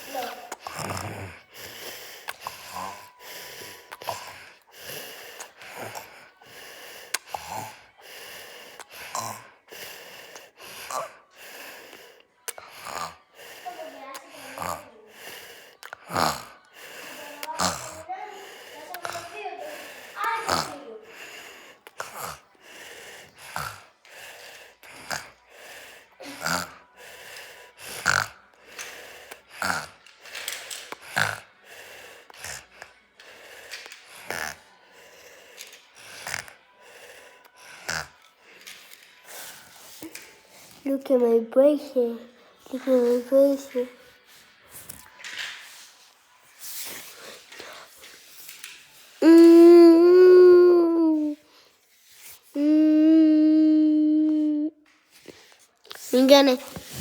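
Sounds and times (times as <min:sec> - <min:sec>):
boy snoring with wheezy breaths: 0:00.0 - 0:44.1, 0:49.0 - 0:54.8, 0:55.8 - 0:57.0.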